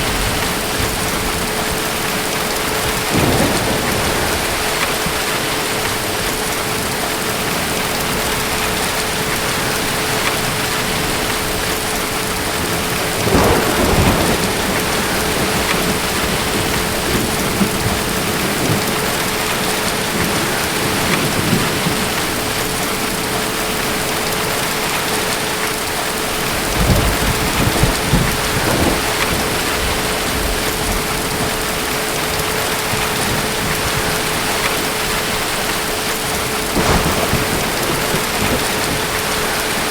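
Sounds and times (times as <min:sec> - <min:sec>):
steady rain: 0:00.0 - 0:39.9
thunder rumbling: 0:00.0 - 0:39.9.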